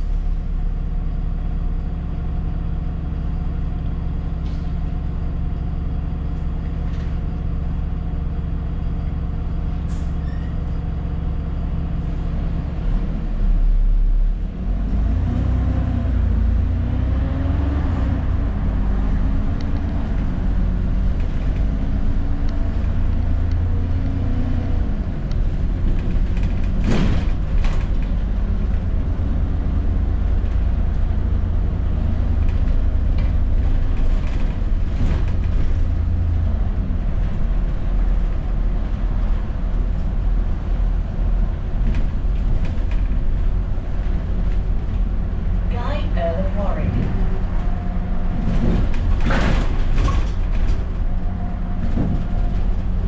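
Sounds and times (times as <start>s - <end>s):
bus diesel engine: 0.0s - 53.0s.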